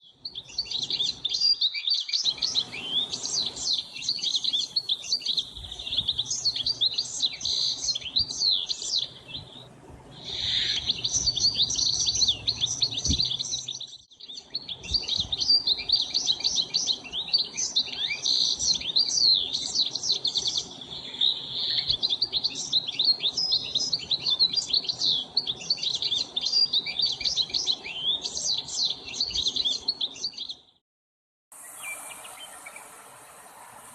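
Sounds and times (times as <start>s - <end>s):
chorus of small birds chirping: 0.0s - 30.8s, 31.6s - 33.9s.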